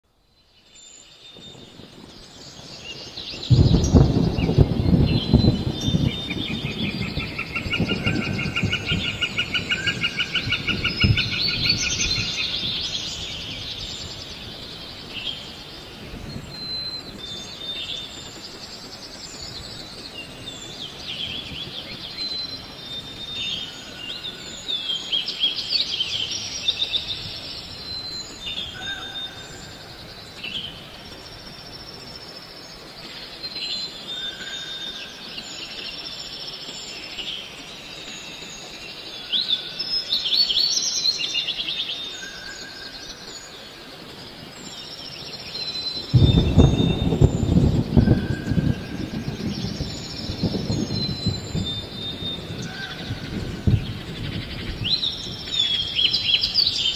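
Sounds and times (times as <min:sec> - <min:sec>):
steady background hiss: 0:00.1 - 0:56.9
birds chirping and calling: 0:02.3 - 0:32.3, 0:37.9 - 0:56.9.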